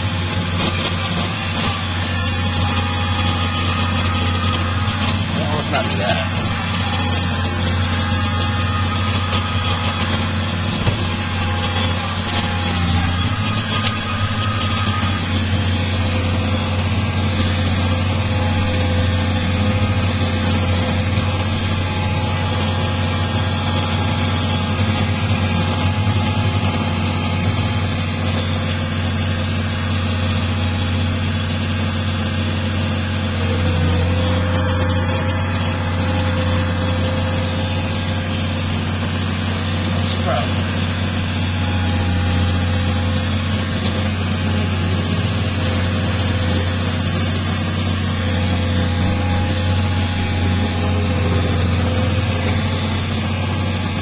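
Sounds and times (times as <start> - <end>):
forage harvester whine: 0.0 - 54.0
tractor engine drone: 0.0 - 54.0.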